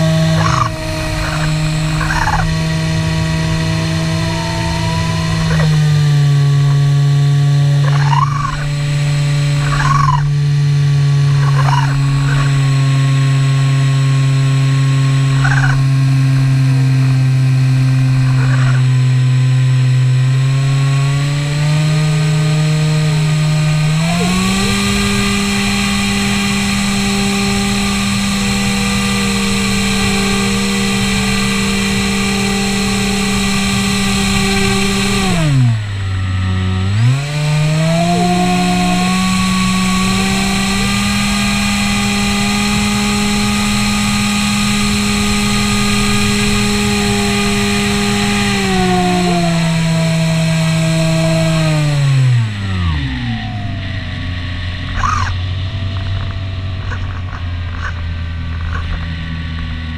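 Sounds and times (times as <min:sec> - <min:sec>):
model plane motor buzzing: 0:00.0 - 0:59.2.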